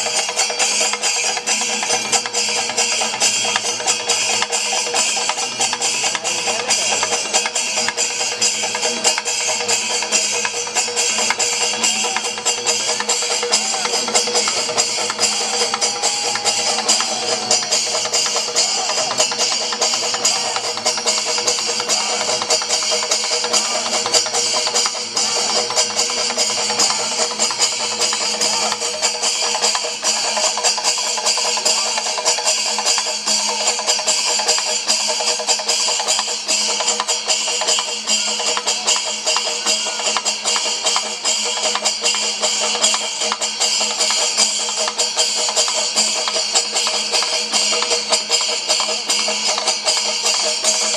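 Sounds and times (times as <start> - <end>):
drums and hand cymbals ensemble: 0.0 - 50.9.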